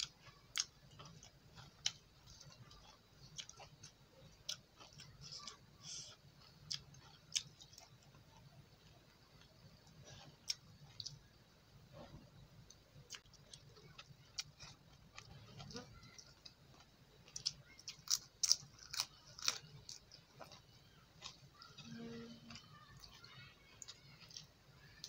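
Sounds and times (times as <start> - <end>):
person chewing: 0.0 - 11.3, 12.6 - 25.0.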